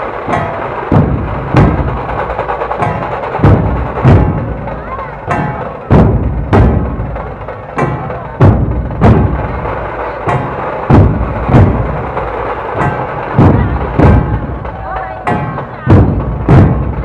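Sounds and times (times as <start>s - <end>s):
heavy drum strokes: 0.0s - 17.0s
rattle of drumming: 0.0s - 17.0s.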